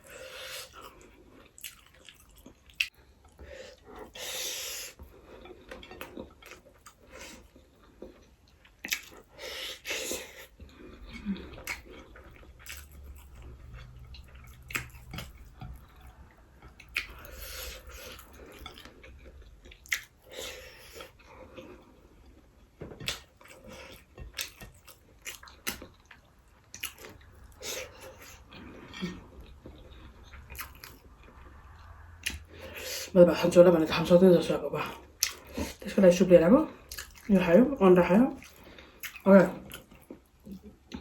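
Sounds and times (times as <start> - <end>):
person chewing: 0.0 - 33.1, 34.9 - 35.8, 36.7 - 37.4, 38.4 - 41.0.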